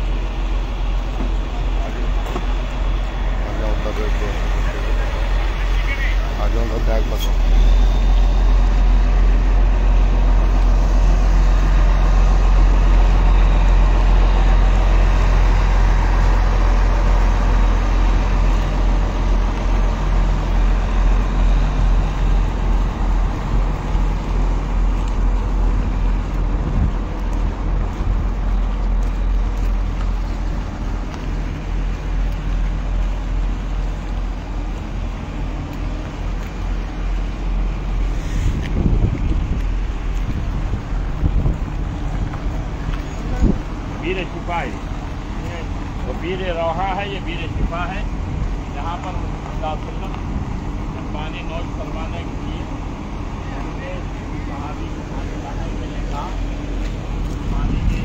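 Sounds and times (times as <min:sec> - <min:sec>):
coach engine idling: 0:00.0 - 0:58.0.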